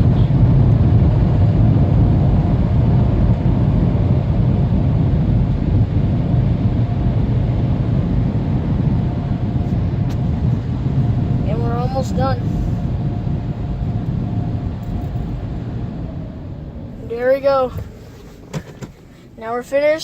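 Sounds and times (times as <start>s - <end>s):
car wash blowers blasting air: 0.0s - 20.0s.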